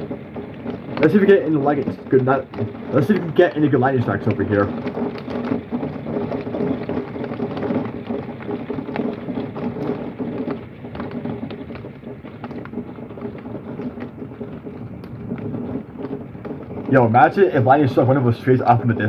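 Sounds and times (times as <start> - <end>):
heavy rain falling: 0.0 - 19.0
raindrops ticking: 0.0 - 19.0.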